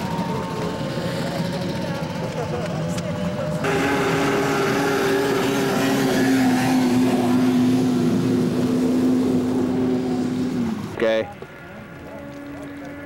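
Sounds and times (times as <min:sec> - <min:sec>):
snowmobile engine at high revs: 0:00.0 - 0:11.1.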